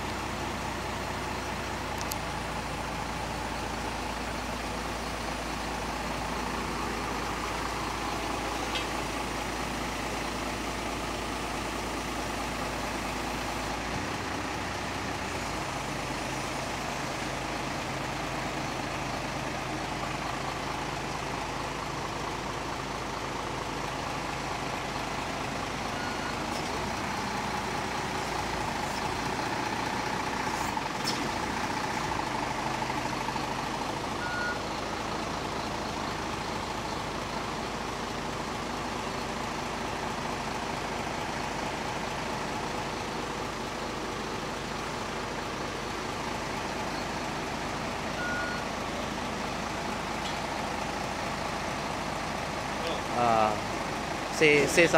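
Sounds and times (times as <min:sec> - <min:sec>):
truck engine running: 0:00.0 - 0:54.9.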